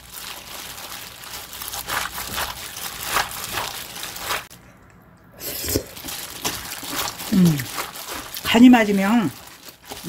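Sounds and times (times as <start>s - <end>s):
wet seaweed squishing: 0.0s - 4.5s, 5.7s - 10.0s
plastic glove crinkling: 0.0s - 4.6s, 5.8s - 10.0s.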